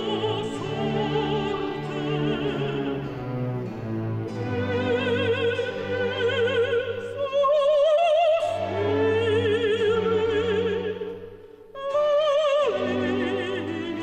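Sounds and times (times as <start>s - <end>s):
operatic singing voice: 0.0s - 14.0s
orchestral accompaniment: 0.0s - 14.0s.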